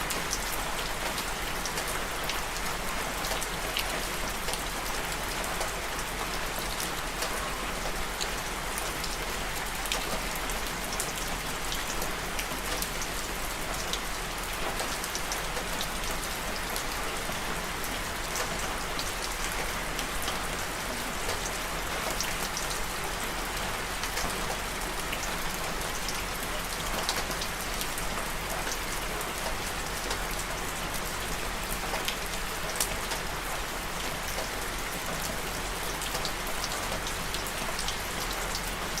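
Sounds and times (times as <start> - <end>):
rain falling on hard surface: 0.0 - 39.0.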